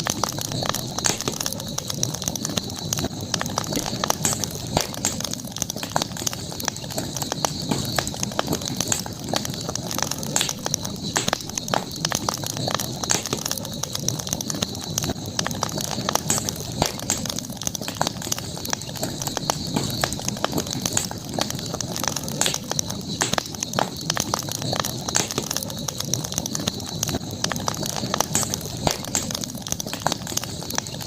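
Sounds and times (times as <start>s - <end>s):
campfire crackling: 0.0s - 31.0s
high-pitched night ambience hiss: 0.0s - 31.0s.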